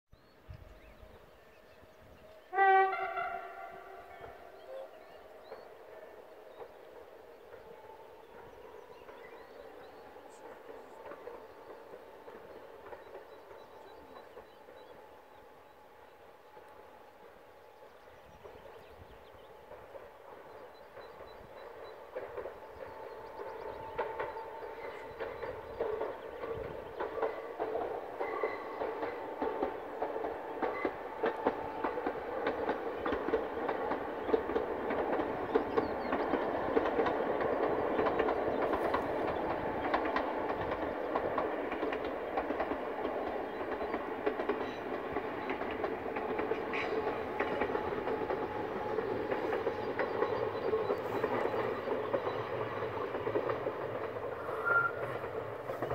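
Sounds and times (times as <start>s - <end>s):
train wheels rumbling on rails: 0.2s - 55.9s.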